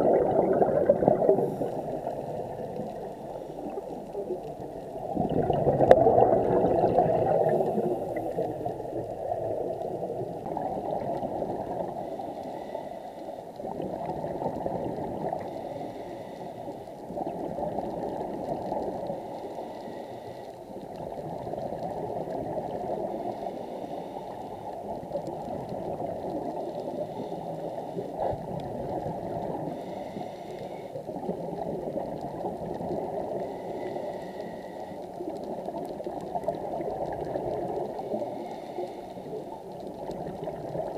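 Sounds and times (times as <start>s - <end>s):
bubbling water heard underwater: 0.0s - 40.9s.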